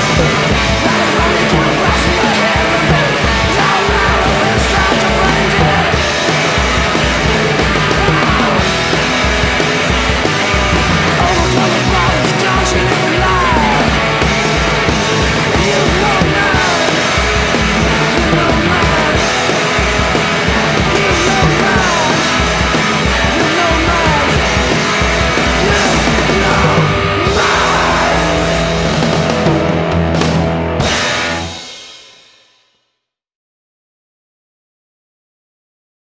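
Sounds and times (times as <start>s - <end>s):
sliding guitar lead lines: 0.0s - 31.6s
punk rock band playing: 0.0s - 32.4s.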